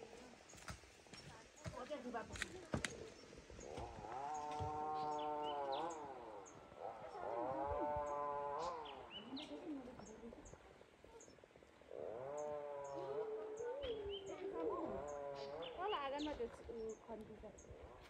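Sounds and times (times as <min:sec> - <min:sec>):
small birds chirping faintly: 0:00.0 - 0:18.0
animal calling: 0:02.4 - 0:18.0.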